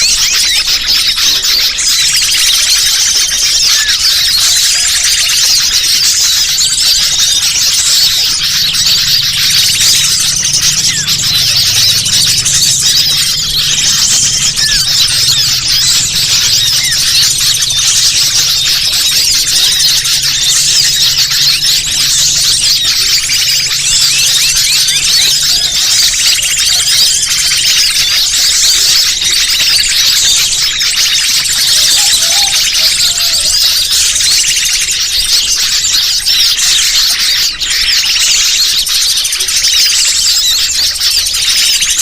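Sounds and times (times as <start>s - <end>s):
dense bird chirping: 0.0s - 42.0s.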